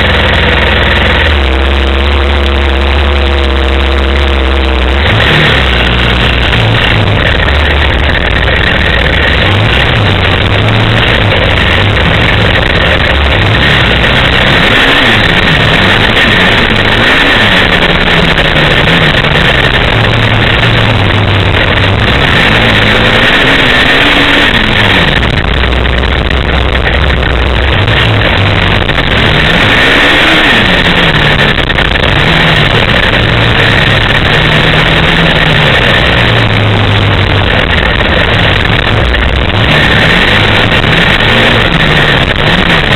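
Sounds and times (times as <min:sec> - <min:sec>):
motorcycle and atv engines revving: 0:00.0 - 0:42.9.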